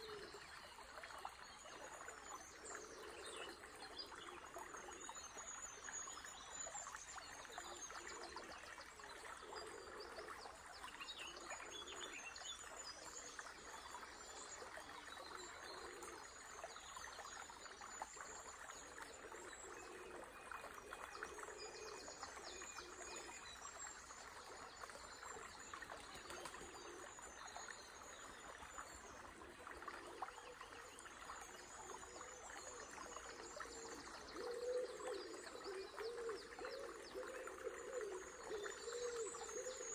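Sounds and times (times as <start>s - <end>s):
river trickling and babbling: 0.0s - 39.9s
songbirds chirping: 0.0s - 39.9s.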